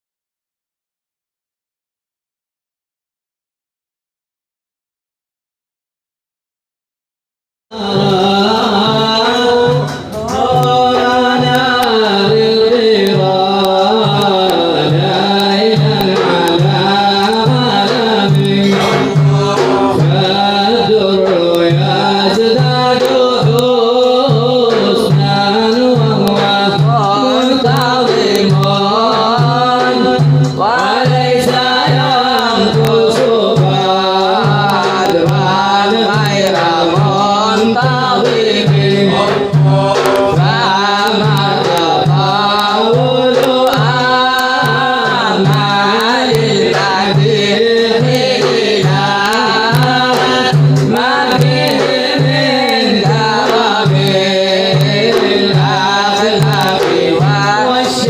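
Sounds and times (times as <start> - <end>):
low percussion beat: 7.7 - 58.0
man singing ornamented melody: 7.7 - 58.0.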